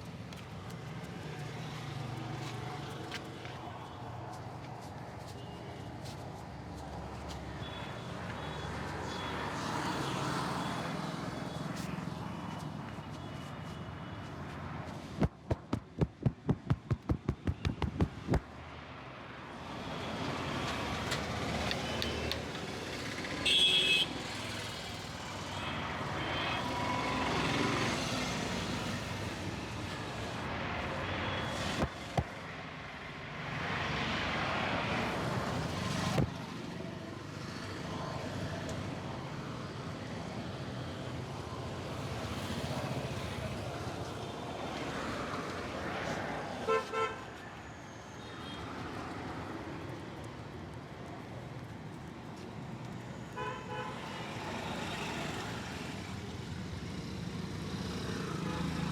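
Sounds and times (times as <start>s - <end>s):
street traffic noise: 0.0s - 58.9s.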